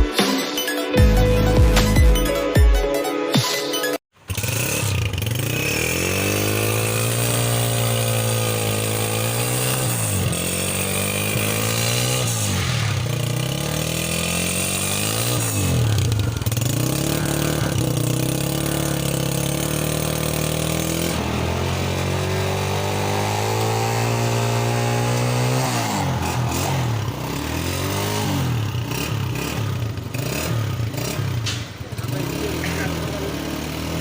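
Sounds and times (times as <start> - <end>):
motorcycle engine revving: 4.2 - 34.0.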